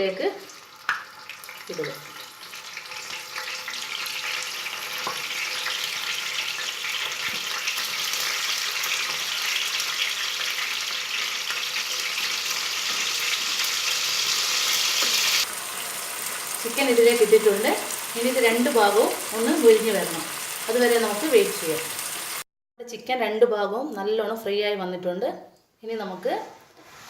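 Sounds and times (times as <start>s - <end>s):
chicken frying in hot oil: 0.4s - 22.4s.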